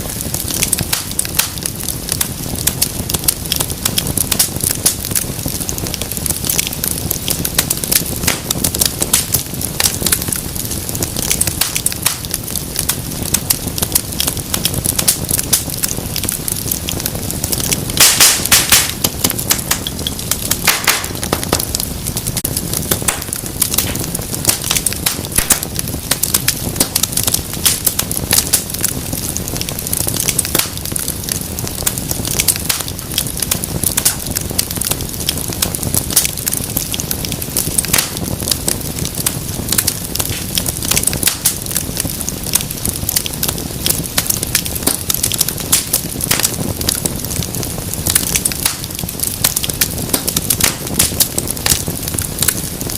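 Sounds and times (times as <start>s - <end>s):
low rumble of burning: 0.0s - 52.9s
wood fire crackling and popping: 0.0s - 52.9s.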